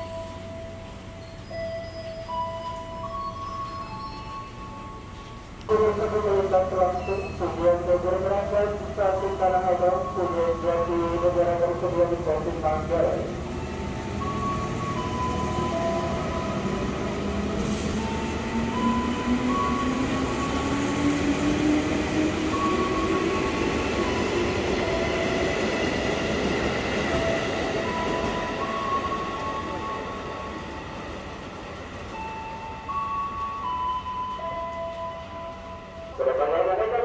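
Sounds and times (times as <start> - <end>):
rumble of wheels on rail: 0.0 - 37.0.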